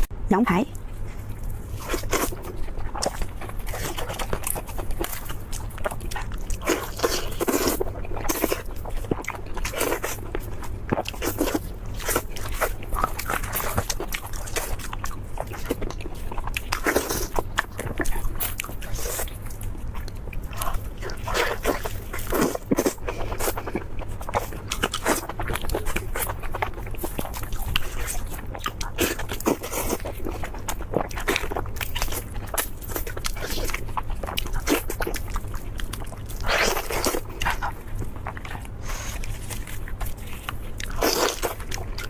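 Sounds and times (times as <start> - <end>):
steady low hum: 0.0 - 42.0
crunchy bites and wet chewing: 0.8 - 42.0.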